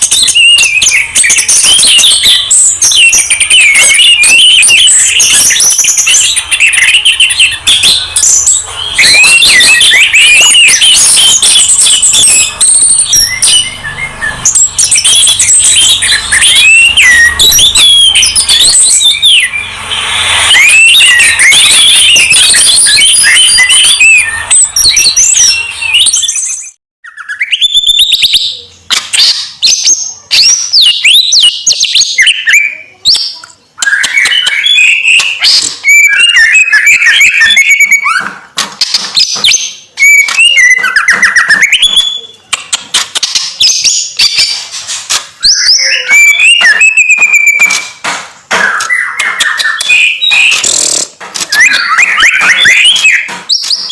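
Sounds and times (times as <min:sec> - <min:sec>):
sweeping whistled bird phrases: 0:00.0 - 0:38.3, 0:39.2 - 0:42.5, 0:43.4 - 0:48.0, 0:48.6 - 0:50.8, 0:51.4 - 0:53.9
songbirds singing: 0:00.0 - 0:44.7, 0:45.4 - 0:53.9.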